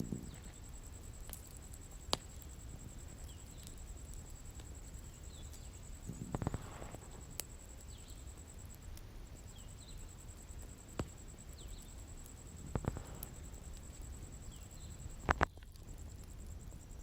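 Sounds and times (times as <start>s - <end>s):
bonfire rumbling: 0.0s - 17.0s
fire crackling pops: 0.0s - 17.0s
insect trill: 0.0s - 17.0s.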